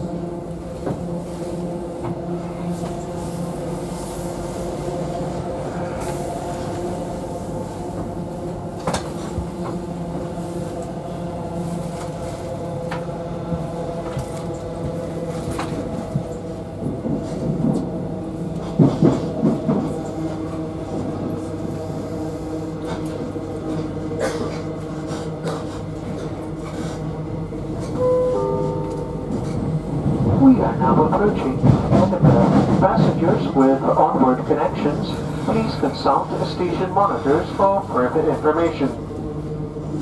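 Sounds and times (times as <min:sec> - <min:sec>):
train coach running hum: 0:00.0 - 0:40.0.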